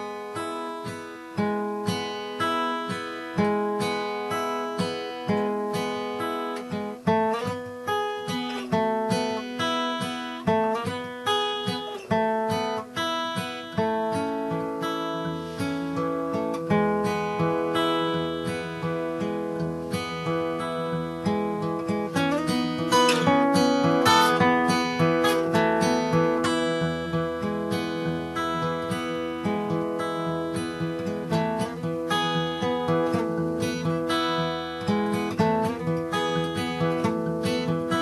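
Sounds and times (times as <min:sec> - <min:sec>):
fingerpicked acoustic guitar: 0:00.0 - 0:38.0.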